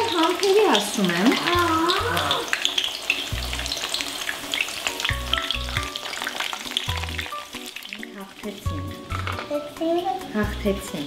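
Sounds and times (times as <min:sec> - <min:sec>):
slices sizzling in hot oil: 0:00.0 - 0:11.0
background music with low bass: 0:01.5 - 0:11.0.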